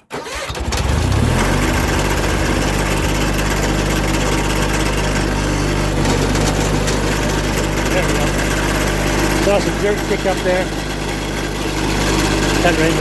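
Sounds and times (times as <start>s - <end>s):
garden tractor engine revving: 0.0s - 13.0s.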